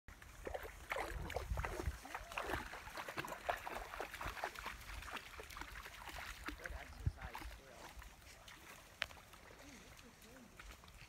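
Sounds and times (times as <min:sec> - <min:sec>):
river water splashing: 0:00.1 - 0:11.0.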